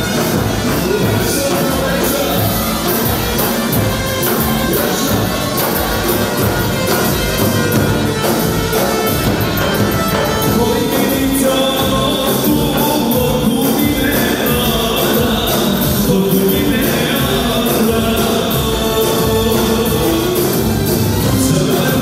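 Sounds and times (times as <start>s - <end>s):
music with singing: 0.0s - 22.0s.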